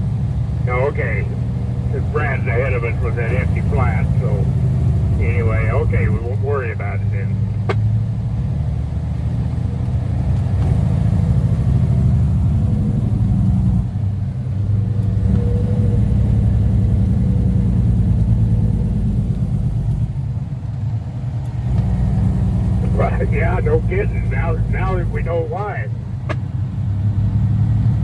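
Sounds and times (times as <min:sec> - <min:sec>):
road noise: 0:00.0 - 0:28.0
truck diesel engine droning: 0:00.0 - 0:28.0.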